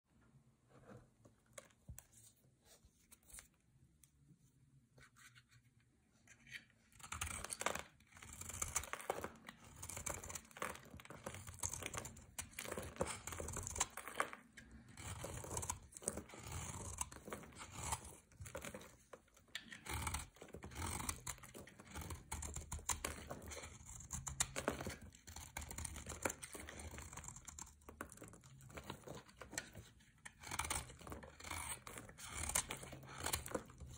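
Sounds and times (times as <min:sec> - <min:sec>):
knife scraping soap: 0:05.0 - 0:33.9.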